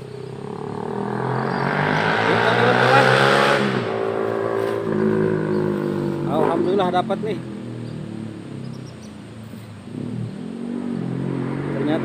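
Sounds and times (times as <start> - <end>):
steady engine hum: 0.0 - 12.0
vehicle engine passing by: 0.0 - 12.0.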